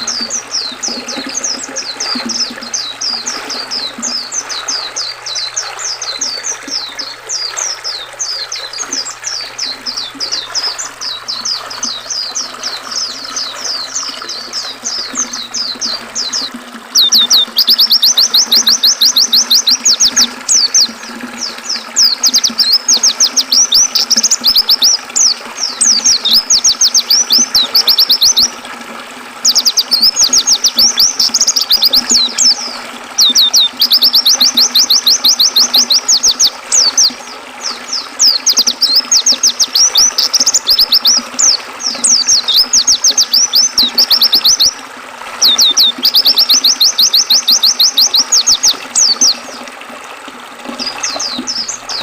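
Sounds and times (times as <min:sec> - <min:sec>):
bird twittering: 0:00.0 - 0:28.6, 0:29.4 - 0:44.8, 0:45.4 - 0:49.7, 0:50.7 - 0:52.0
river water flowing: 0:00.0 - 0:52.0.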